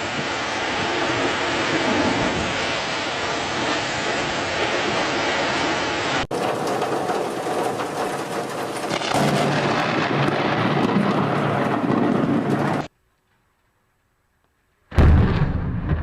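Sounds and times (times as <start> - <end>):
storm noise rushing: 0.0 - 12.9
thunder rumbling: 0.0 - 12.9, 14.9 - 16.0.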